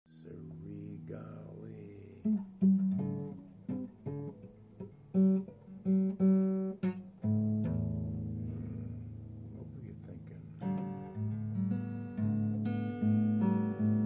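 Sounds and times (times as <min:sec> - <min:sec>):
guitar plucked melody: 0:00.1 - 0:14.0.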